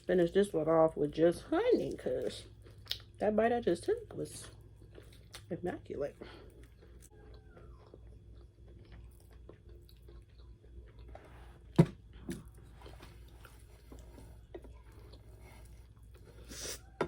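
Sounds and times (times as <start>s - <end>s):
chewing and biting food: 1.7s - 3.2s, 4.0s - 5.5s, 6.3s - 17.0s.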